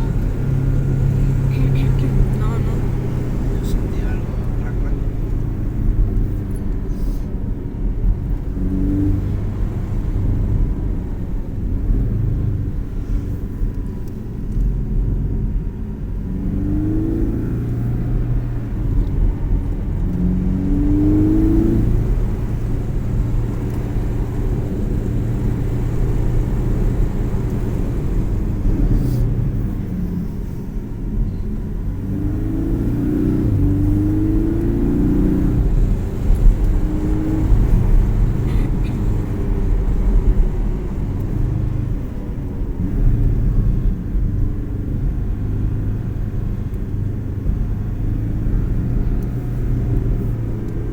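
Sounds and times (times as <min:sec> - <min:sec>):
car engine revving: 0:00.0 - 0:50.9
low road rumble: 0:00.0 - 0:50.9.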